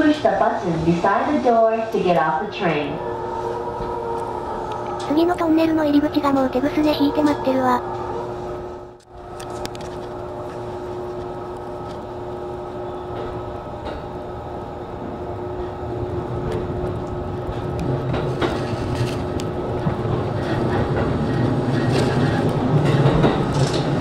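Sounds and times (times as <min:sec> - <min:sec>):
electric train rumbling on track: 0:00.0 - 0:24.0.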